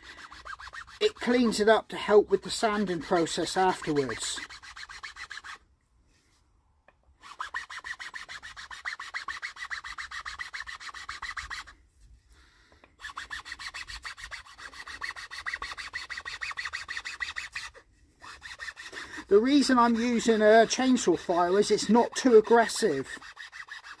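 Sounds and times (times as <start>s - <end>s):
file rasping on wood: 0.0s - 1.6s, 2.4s - 5.6s, 7.2s - 11.7s, 13.0s - 24.0s.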